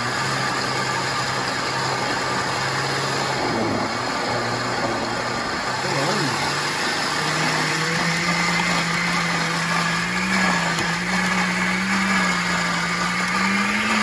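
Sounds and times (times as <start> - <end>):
blender motor running: 0.0 - 14.0.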